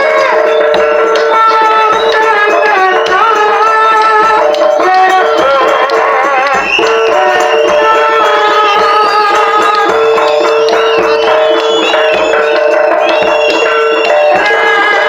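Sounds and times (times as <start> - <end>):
drum strokes and percussion: 0.0 - 15.0
held note with melody: 0.0 - 15.0.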